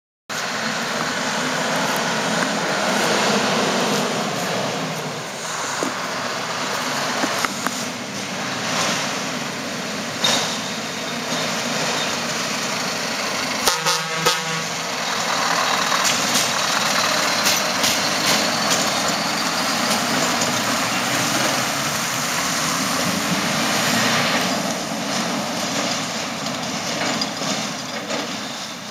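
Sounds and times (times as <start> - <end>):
diesel truck engine running: 0.3 - 28.9.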